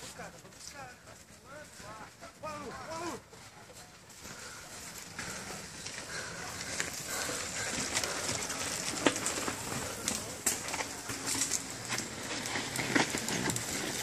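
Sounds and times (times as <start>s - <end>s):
bike tyres crunching over dirt: 0.0s - 14.0s.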